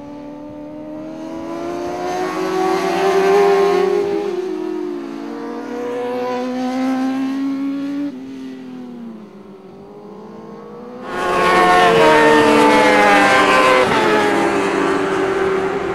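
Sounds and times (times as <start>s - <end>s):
racing motorcycle passing by: 0.1s - 15.9s
racing motorcycle accelerating: 0.2s - 15.9s.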